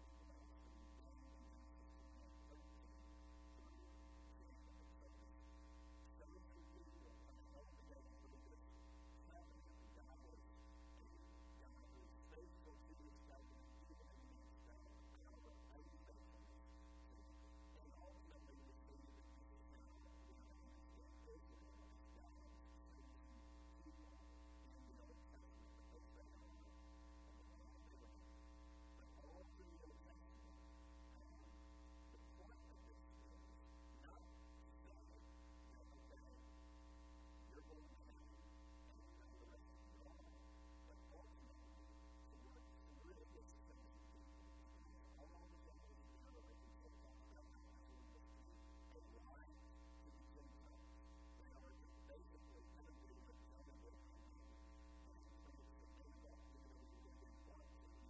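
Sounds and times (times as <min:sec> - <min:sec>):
electrical mains hum: 0:00.0 - 0:58.0.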